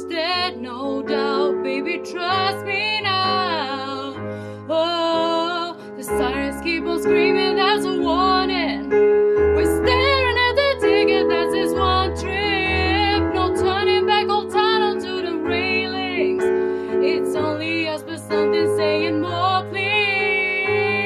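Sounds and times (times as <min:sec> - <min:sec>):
person singing: 0:00.0 - 0:08.9, 0:09.6 - 0:21.0
piano accompaniment: 0:00.0 - 0:21.0.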